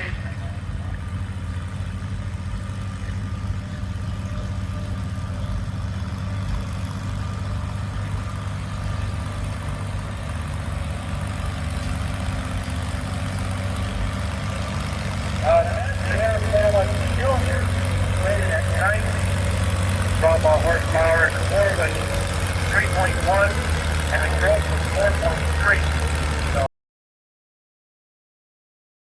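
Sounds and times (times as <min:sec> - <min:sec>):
tractor engine running: 0:00.0 - 0:26.7.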